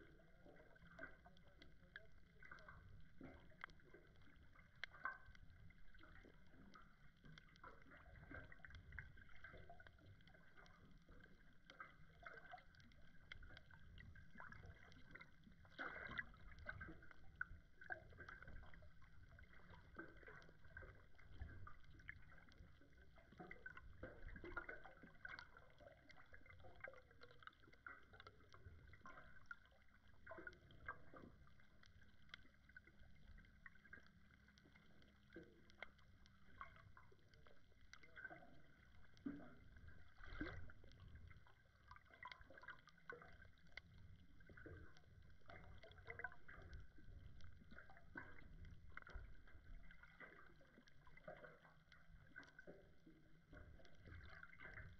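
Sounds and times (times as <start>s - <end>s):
muffled rumble of moving water: 0.0s - 54.9s
soft underwater clicks and crackles: 0.0s - 54.9s.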